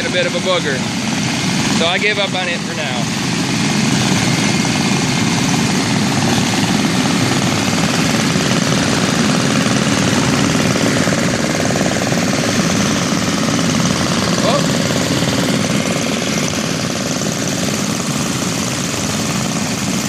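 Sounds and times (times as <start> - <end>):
many small engines chattering: 0.0 - 20.0.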